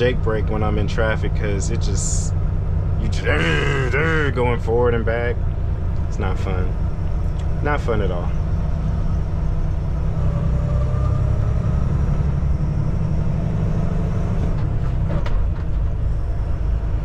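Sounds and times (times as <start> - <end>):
truck diesel engine drone: 0.0 - 17.0.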